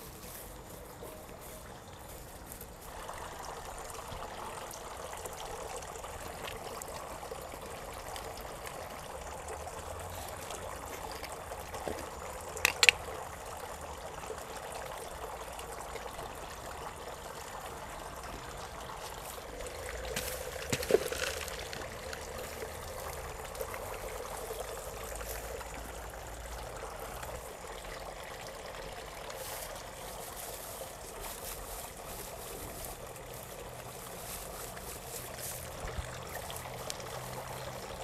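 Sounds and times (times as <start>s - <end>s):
trickle of running water: 0.0s - 38.0s.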